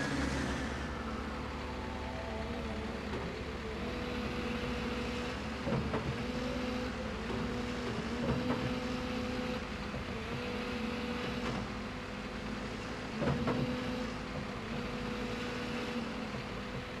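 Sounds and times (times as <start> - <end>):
earthmoving machine engine running: 0.0 - 17.0.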